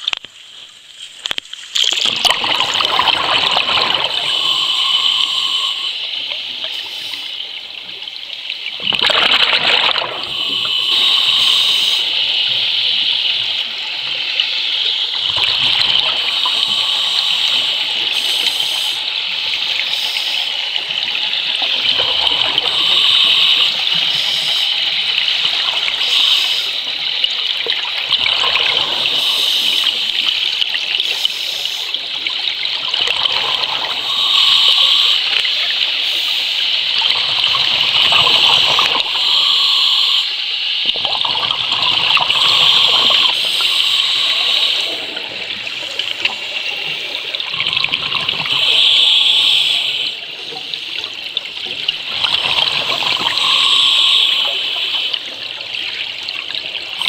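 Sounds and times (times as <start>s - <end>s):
exhaled air bubbles: 1.8s - 57.0s
underwater scuba breathing: 2.8s - 7.9s, 9.2s - 27.5s, 28.3s - 32.2s, 33.1s - 56.2s.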